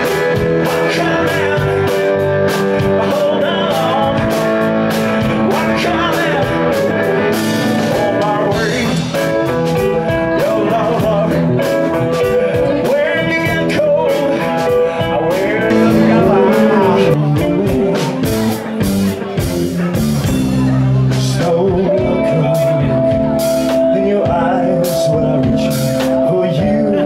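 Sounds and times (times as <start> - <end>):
man singing into microphone: 0.0 - 18.4, 21.0 - 27.0
drums: 0.0 - 27.0
electric guitar: 0.0 - 27.0.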